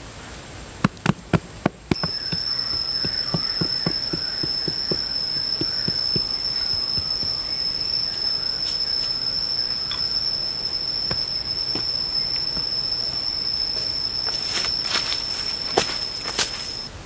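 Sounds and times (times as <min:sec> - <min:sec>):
high-pitched insect whine: 0:01.9 - 0:16.9.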